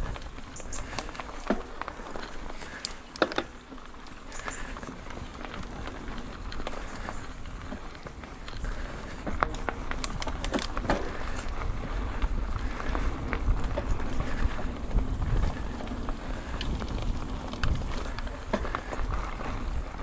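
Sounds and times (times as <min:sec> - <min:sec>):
wind buffeting microphone: 0:00.0 - 0:02.9, 0:04.2 - 0:20.0
bike clicks and rattles: 0:00.0 - 0:20.0
bike rumbling over rough ground: 0:00.0 - 0:20.0.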